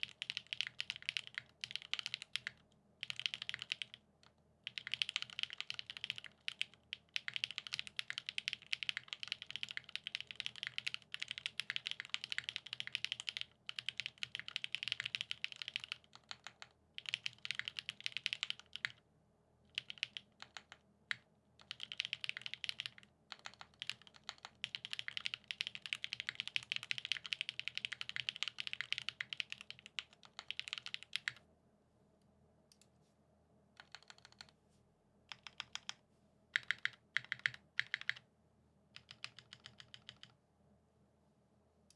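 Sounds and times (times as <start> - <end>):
typing on mechanical keyboard: 0.0 - 19.0, 19.7 - 31.4, 33.8 - 34.5, 35.3 - 38.2, 39.0 - 40.4.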